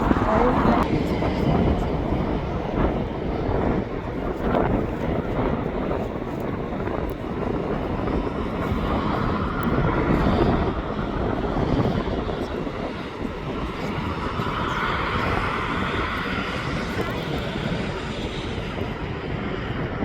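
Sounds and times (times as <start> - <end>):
jet airliner engines running: 0.0 - 20.0.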